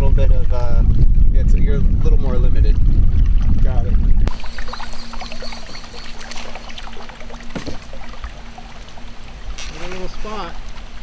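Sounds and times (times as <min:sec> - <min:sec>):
water lapping against hull: 0:00.0 - 0:11.0.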